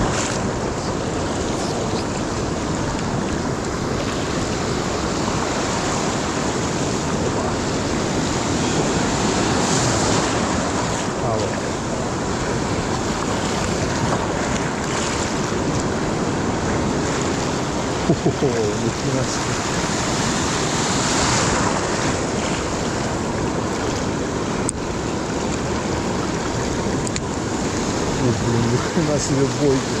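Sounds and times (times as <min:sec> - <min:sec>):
surf breaking on rocks: 0:00.0 - 0:30.0.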